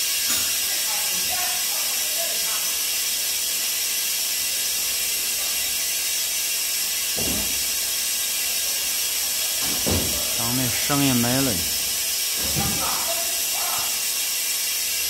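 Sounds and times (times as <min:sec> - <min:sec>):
machine hissing: 0:00.0 - 0:15.0.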